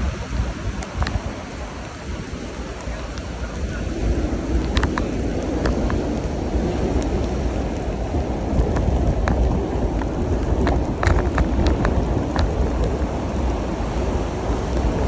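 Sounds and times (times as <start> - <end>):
bicycle tyre noise on wet paving: 0.0 - 15.0
wind noise on microphone: 0.0 - 15.0.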